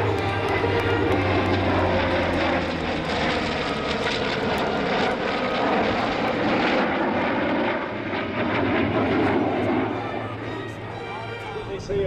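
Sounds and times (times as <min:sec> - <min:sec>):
low hum: 0:00.0 - 0:12.0
propeller aircraft engine drone: 0:00.0 - 0:12.0.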